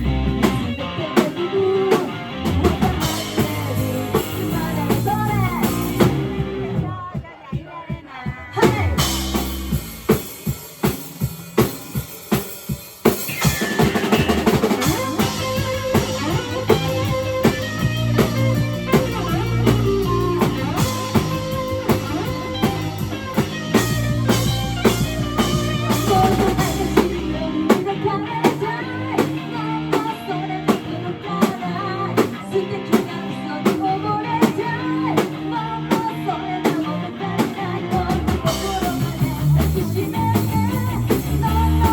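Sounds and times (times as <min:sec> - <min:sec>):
rock band playing: 0:00.0 - 0:07.3, 0:08.4 - 0:41.9
drum kit beat: 0:00.0 - 0:41.9.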